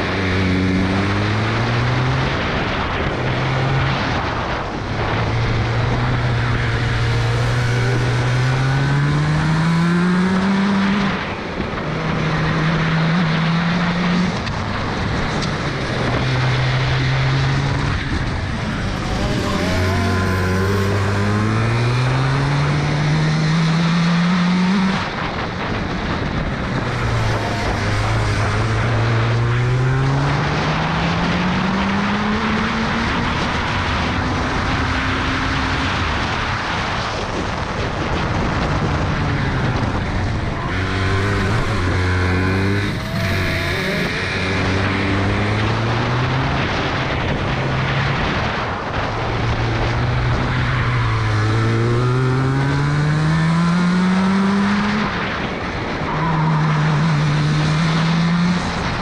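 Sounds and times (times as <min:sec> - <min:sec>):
kart engine accelerating: 0:00.0 - 0:59.0.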